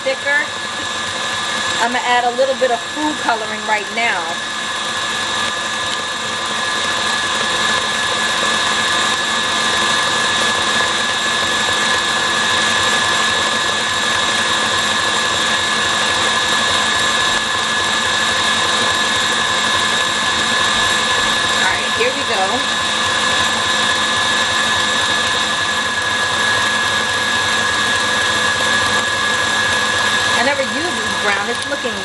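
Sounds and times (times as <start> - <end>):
stand mixer motor whine: 0.0 - 32.0
whisk whirring in bowl: 0.0 - 32.0.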